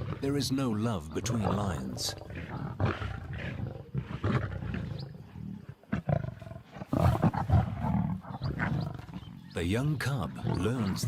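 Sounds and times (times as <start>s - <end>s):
lions snarling and growling: 0.0s - 11.0s.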